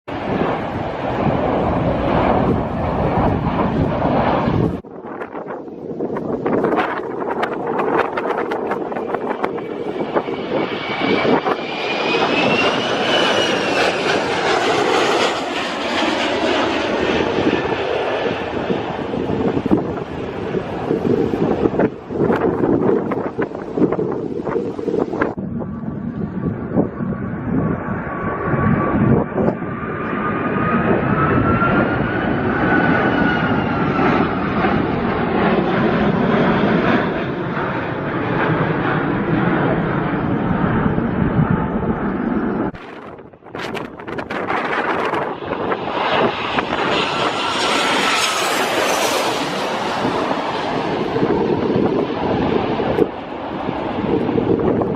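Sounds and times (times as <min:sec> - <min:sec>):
jet engines passing with whine: 0:00.1 - 0:54.9
wind buffeting microphone: 0:00.1 - 0:54.9.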